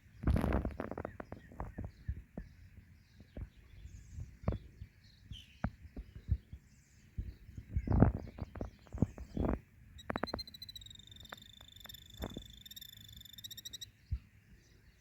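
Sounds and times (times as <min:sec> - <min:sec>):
faint high bird chirps: 0:00.0 - 0:15.0.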